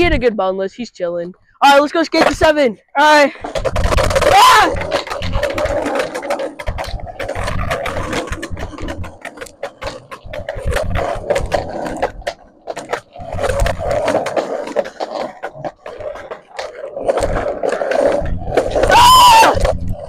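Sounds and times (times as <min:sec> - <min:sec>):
skateboard wheels rumbling on concrete: 0:00.0 - 0:00.4, 0:01.2 - 0:20.0
skateboard wheels clacking over joints: 0:00.0 - 0:00.5, 0:01.2 - 0:20.0.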